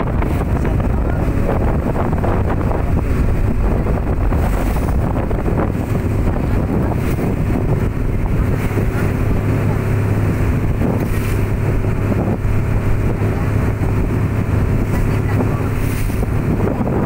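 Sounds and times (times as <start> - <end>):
boat engine droning: 0.0 - 17.0
sea water rushing: 0.0 - 17.0
wind buffeting microphone: 0.0 - 17.0.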